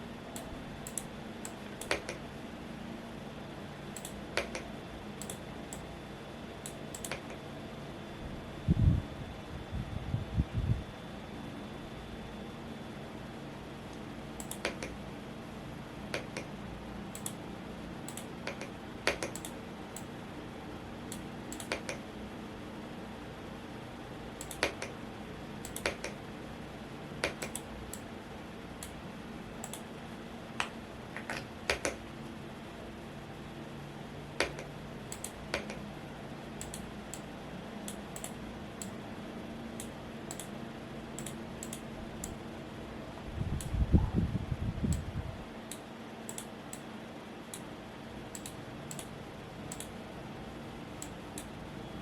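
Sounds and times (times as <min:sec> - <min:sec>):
fan humming: 0:00.0 - 0:52.0.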